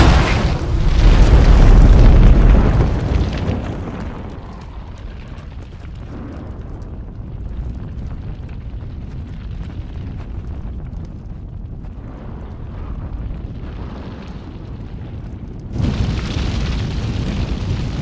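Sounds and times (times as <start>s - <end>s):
fire crackling: 0.0s - 18.0s
huge explosion boom: 0.0s - 18.0s
low rumble of fire: 0.0s - 18.0s.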